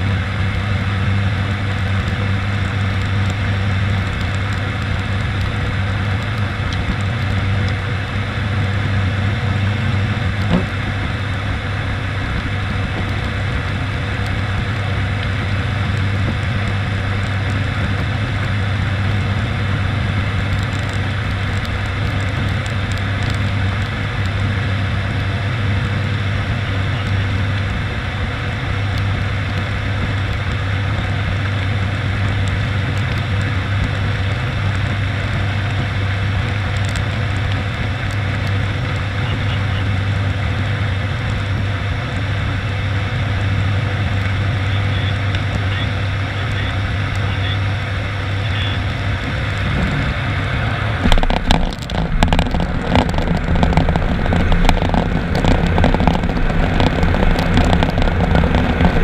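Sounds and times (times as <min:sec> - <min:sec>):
rushing airflow: 0:00.0 - 0:59.0
turboprop engines droning: 0:00.0 - 0:59.0.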